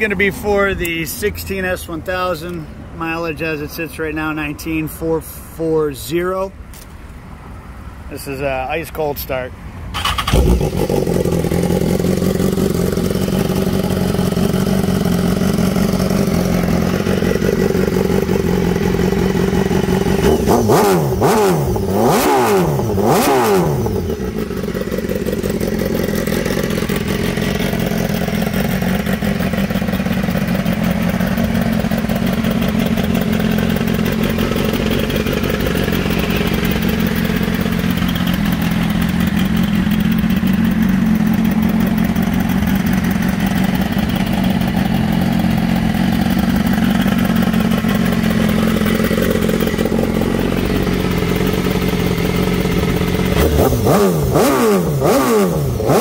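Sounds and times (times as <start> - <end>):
motorcycle engine idling: 10.0 - 56.0.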